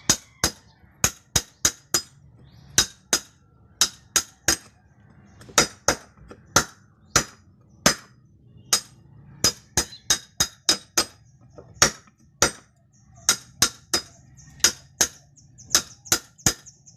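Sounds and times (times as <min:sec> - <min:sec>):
hammer striking chisel: 0:00.1 - 0:04.8, 0:05.4 - 0:16.7.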